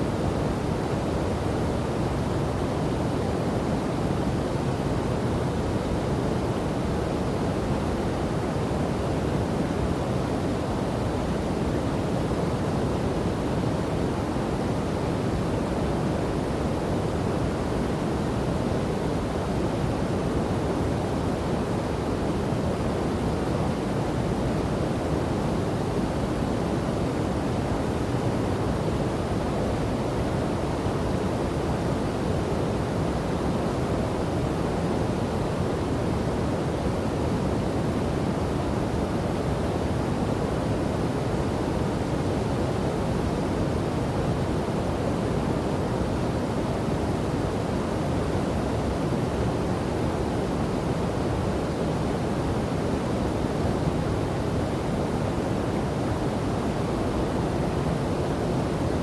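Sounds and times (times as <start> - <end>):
waterfall and river roar: 0.0 - 59.0.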